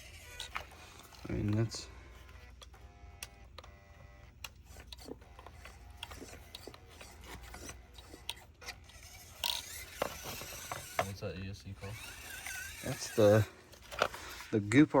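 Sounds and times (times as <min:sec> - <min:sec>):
small motor stuttering whine: 0:00.0 - 0:14.5.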